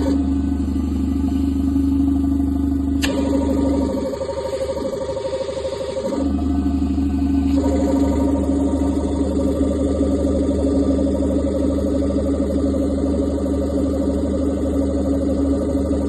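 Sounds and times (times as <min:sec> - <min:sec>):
refrigeration compressor humming: 0:00.0 - 0:16.0.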